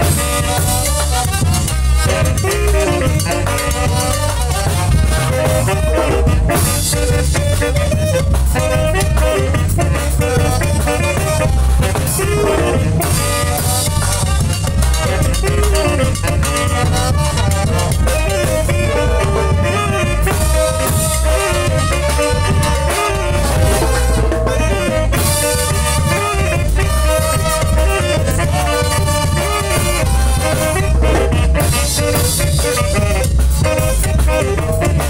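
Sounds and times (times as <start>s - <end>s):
latin dance band music: 0.0s - 35.0s.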